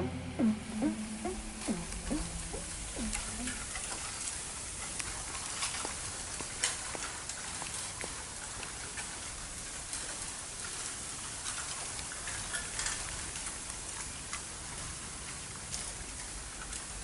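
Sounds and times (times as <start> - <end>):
rain drops ticking on hard surface: 0.4 - 17.0.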